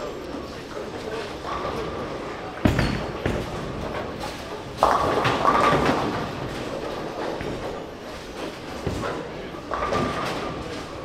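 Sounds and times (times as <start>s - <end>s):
bowling ball thudding and rolling: 1.4s - 11.0s.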